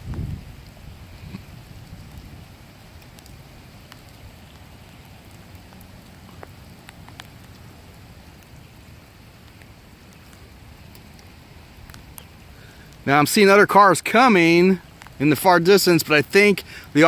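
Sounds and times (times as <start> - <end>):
raindrops ticking: 0.0 - 17.0.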